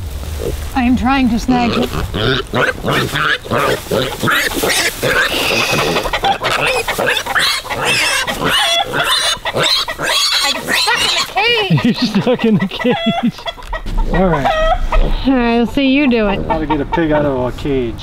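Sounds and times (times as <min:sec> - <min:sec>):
piglets squealing: 0:01.5 - 0:17.3.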